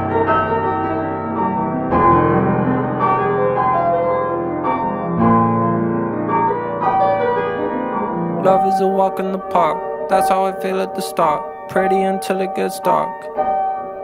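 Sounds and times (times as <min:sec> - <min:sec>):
piano-led pop instrumental: 0:00.0 - 0:14.0.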